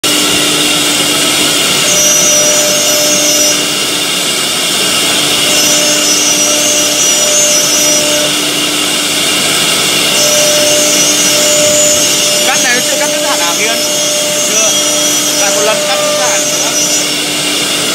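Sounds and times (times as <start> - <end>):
dust extraction rushing: 0.0 - 17.9
high cutting tone: 0.0 - 17.9
router spindle whine: 0.0 - 17.9.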